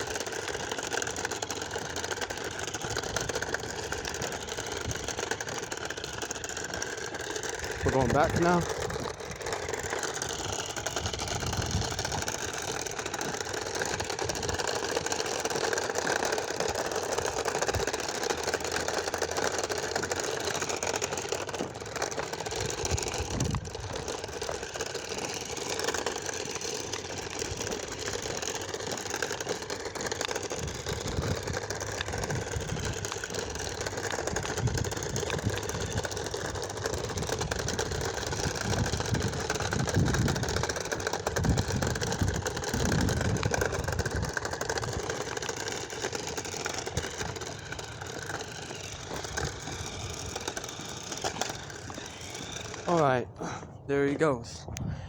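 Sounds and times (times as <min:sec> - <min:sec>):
toy car electric motor whirring: 0:00.0 - 0:55.0.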